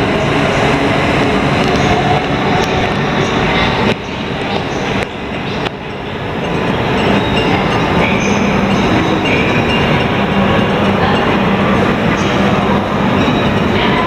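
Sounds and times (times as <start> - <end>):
train wheels and motors running: 0.0 - 14.0.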